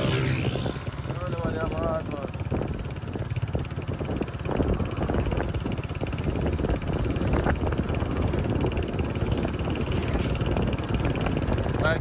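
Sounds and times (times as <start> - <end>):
motorcycle engine and road noise: 0.0 - 12.0
wind rushing over microphone: 0.0 - 12.0.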